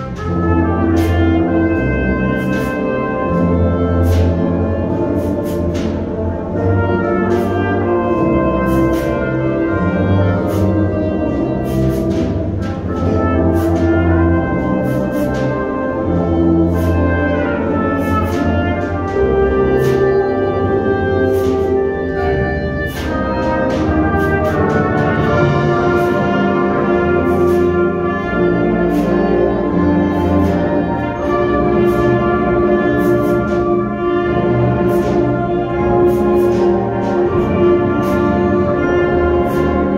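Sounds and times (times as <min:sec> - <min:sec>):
concert band playing: 0:00.0 - 0:39.9
percussion strokes: 0:00.0 - 0:39.9.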